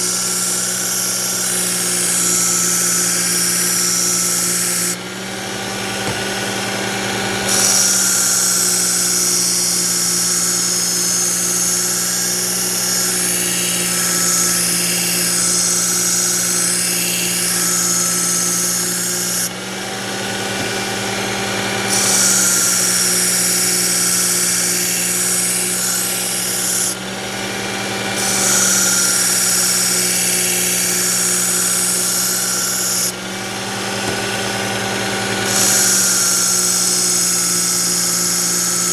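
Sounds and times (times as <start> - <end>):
belt sharpener motor hum: 0.0 - 38.9.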